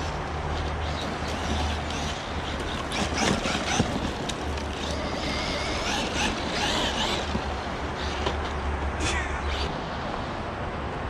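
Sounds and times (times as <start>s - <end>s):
rc truck motor whining: 0.0s - 8.7s, 9.4s - 10.3s.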